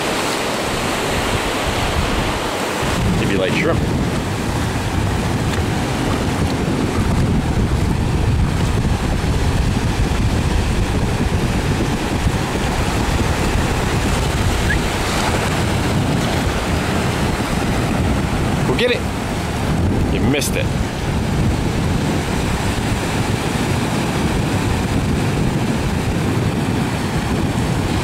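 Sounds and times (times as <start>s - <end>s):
small waves washing on beach: 0.0s - 28.0s
wind noise on microphone: 0.0s - 28.0s.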